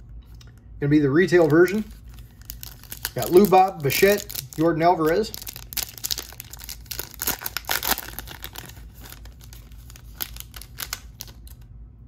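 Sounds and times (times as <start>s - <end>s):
foil wrapper crinkling and tearing: 1.3s - 11.6s.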